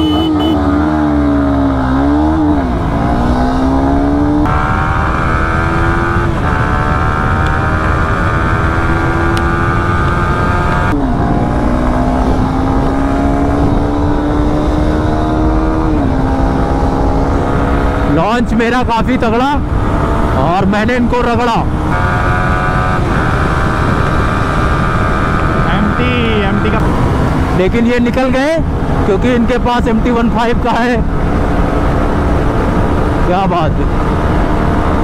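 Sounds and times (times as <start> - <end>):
motorcycle engine revving: 0.0 - 18.7, 19.3 - 35.0
wind rush over microphone: 2.2 - 35.0.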